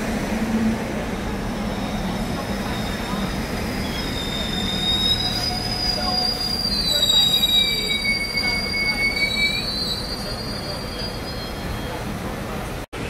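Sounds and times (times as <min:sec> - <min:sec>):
lower wheel squeal: 0:01.6 - 0:12.3
train wheels squealing: 0:01.6 - 0:12.3.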